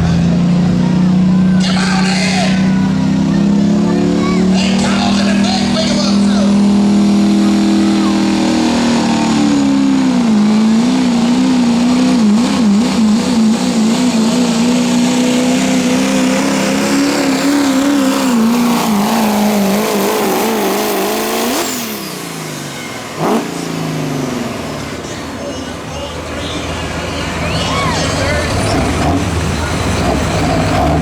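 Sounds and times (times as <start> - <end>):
diesel pickup engine at full throttle: 0.0 - 31.0.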